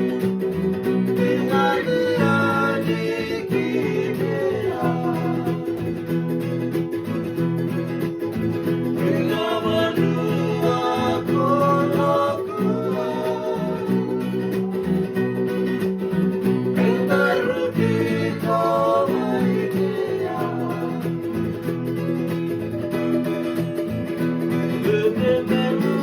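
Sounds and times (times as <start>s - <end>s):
group singing: 0.0s - 7.8s, 8.6s - 26.0s
strummed guitars and ukulele: 0.0s - 26.0s.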